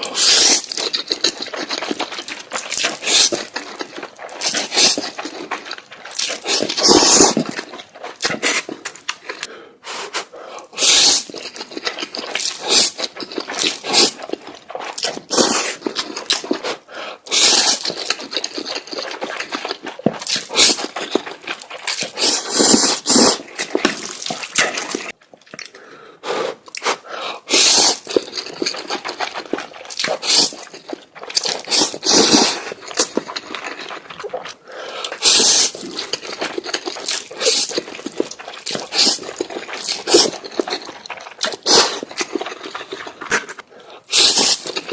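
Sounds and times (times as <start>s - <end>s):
wet smacking chewing: 0.0s - 9.5s, 10.6s - 25.9s, 26.6s - 44.9s
loud noodle slurps: 0.0s - 25.2s, 26.2s - 44.9s.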